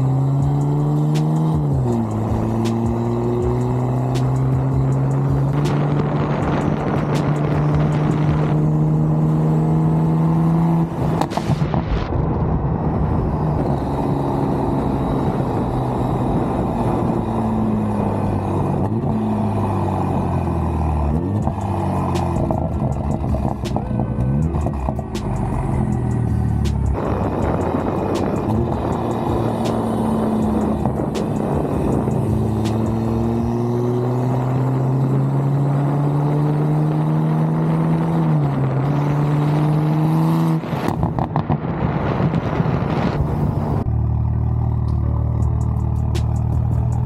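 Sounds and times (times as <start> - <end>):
car engine droning: 0.0 - 47.0.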